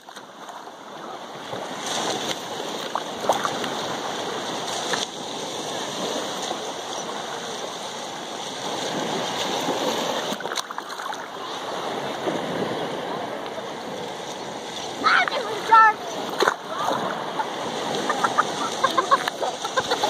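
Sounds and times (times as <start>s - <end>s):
shallow water lapping: 0.0s - 20.0s
small water splashes: 0.0s - 20.0s.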